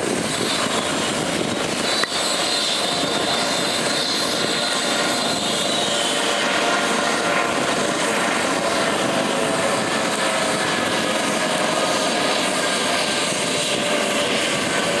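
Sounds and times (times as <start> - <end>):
helicopter rotors rushing: 0.0 - 15.0
helicopter turbine whine: 0.0 - 15.0.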